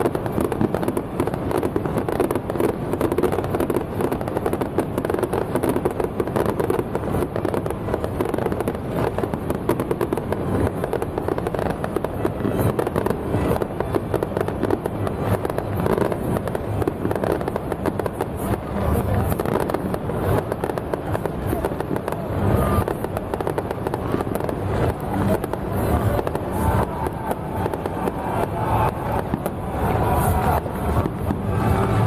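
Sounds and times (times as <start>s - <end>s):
firecrackers crackling: 0.0s - 32.0s.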